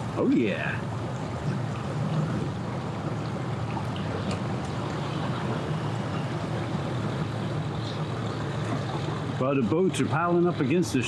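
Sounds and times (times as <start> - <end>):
boat motor running: 0.0 - 11.0
water churning and splashing: 0.0 - 11.0.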